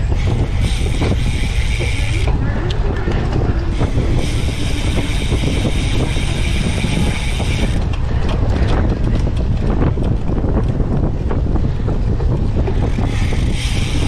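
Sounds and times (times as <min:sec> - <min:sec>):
steady high whirr: 0:00.0 - 0:11.1, 0:11.7 - 0:14.0
bike chain rattling: 0:00.0 - 0:14.0
tyres rumbling over rough ground: 0:00.0 - 0:14.0
wind on microphone: 0:00.0 - 0:14.0.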